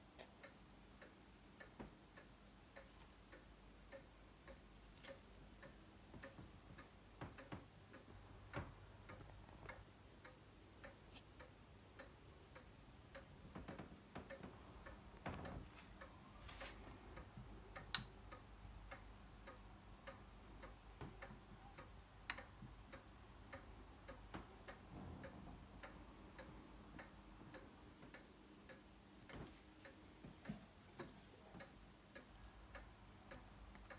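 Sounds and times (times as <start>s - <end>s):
faint steady ticking: 0.0s - 33.9s.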